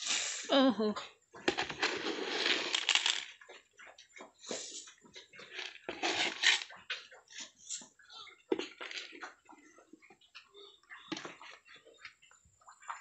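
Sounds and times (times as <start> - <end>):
piglet crunching and snuffling: 1.4 - 13.0.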